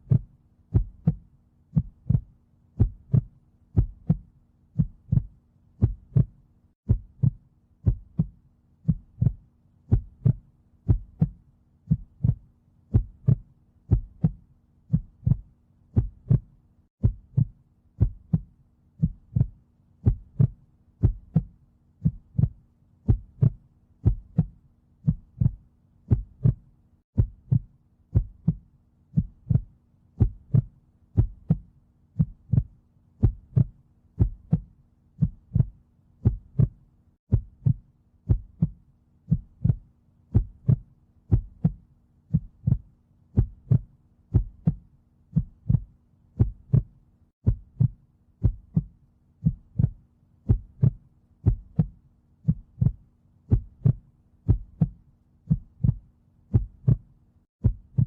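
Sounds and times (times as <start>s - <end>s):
heartbeat thumps: 0.0s - 58.0s.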